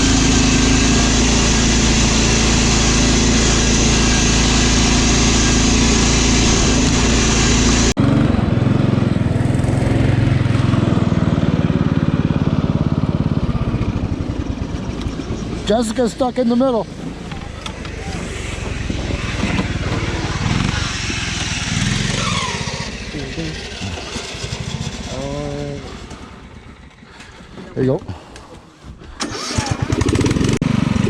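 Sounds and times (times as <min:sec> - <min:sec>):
mower engine throbbing: 0:00.0 - 0:27.6, 0:29.2 - 0:31.0
riding mower engine running: 0:00.0 - 0:31.0.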